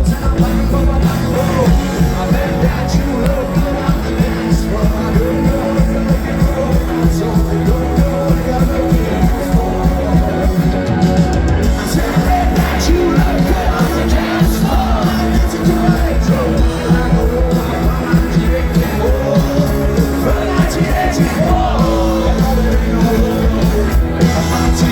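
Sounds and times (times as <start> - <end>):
live rock band playing: 0.0 - 24.9
person singing: 0.0 - 24.9.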